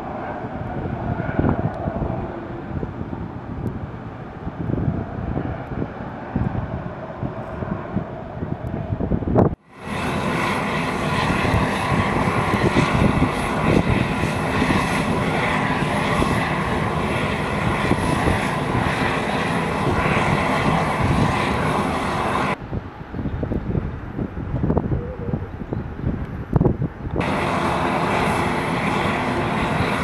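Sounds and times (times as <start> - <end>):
aircraft engines running: 0.0 - 30.0.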